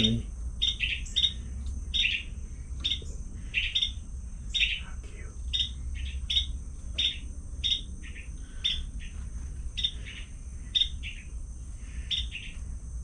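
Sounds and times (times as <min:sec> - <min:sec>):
small bird chirping: 0:00.0 - 0:12.8
steady low hum: 0:00.0 - 0:13.0.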